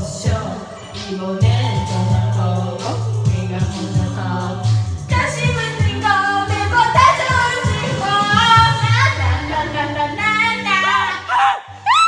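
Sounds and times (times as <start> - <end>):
backing track with steady beat: 0.0 - 10.5
woman singing pop song: 0.0 - 11.3.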